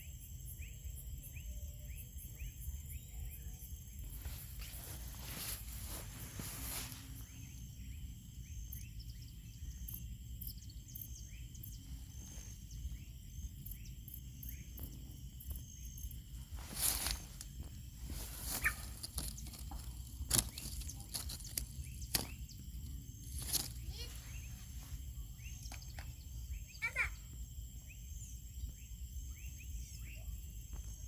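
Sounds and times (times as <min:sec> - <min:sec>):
birds chirping: 0:02.4 - 0:30.4.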